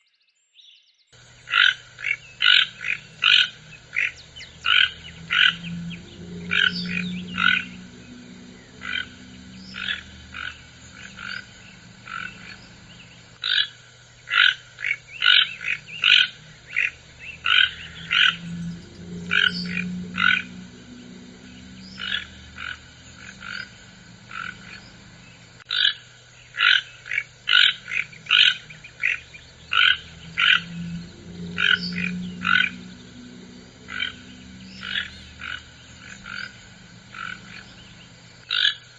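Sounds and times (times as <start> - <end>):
toucan croaking: 1.2 - 26.0, 26.6 - 38.8.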